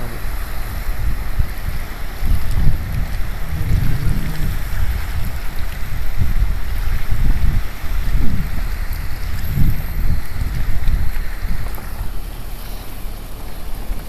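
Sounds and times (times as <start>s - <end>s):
steady hiss of wind: 0.0s - 14.0s
wind buffeting microphone: 0.0s - 14.0s.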